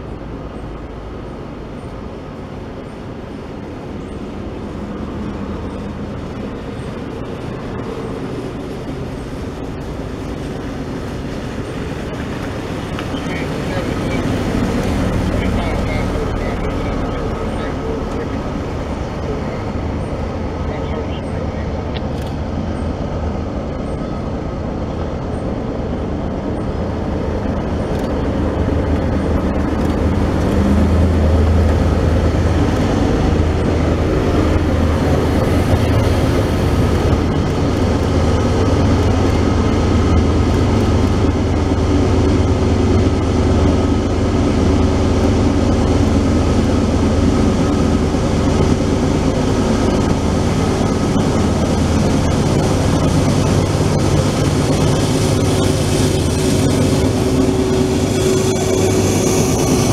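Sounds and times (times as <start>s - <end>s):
freight train engine drone: 0.0s - 59.9s.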